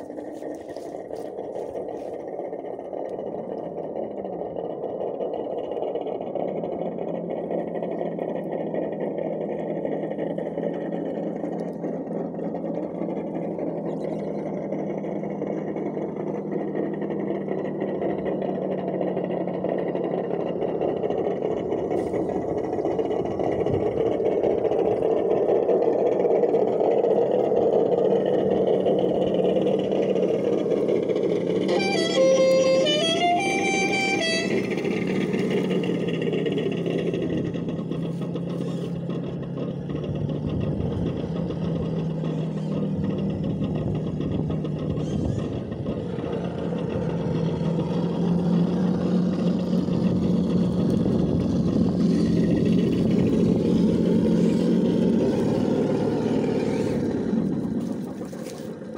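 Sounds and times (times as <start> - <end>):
electric motor and gearbox whirring: 0.0 - 58.9.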